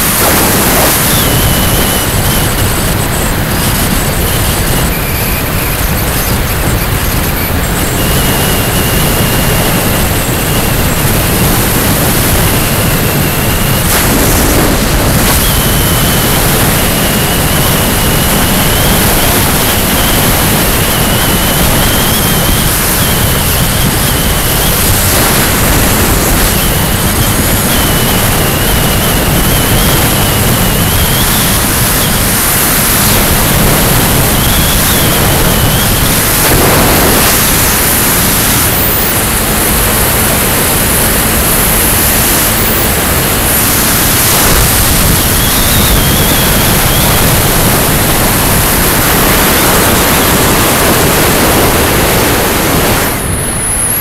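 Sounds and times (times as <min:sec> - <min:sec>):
faint high whine: 0:00.0 - 0:54.0
wind and road noise: 0:00.0 - 0:54.0.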